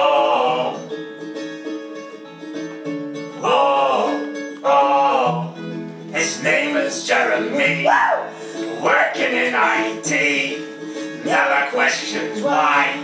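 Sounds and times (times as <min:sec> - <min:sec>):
vocal phrases: 0:00.0 - 0:00.9, 0:03.4 - 0:13.0
plucked strings accompaniment: 0:00.0 - 0:13.0.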